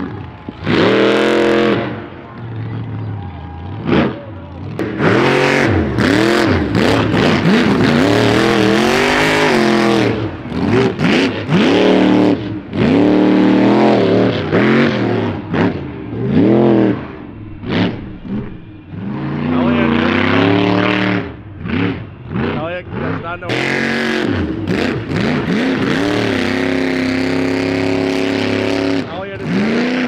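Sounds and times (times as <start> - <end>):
truck engine revving hard: 0.0 - 30.0.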